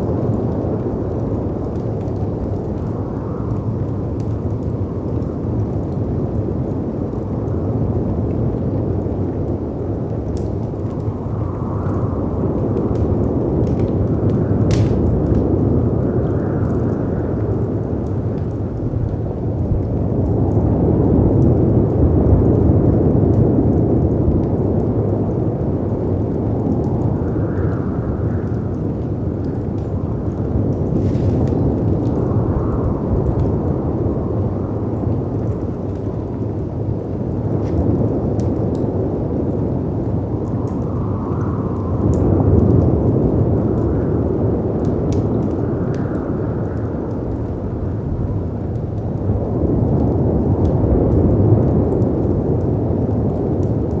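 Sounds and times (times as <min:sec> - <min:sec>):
howling wind: 0:00.0 - 0:54.0
wood fire crackling: 0:00.0 - 0:54.0.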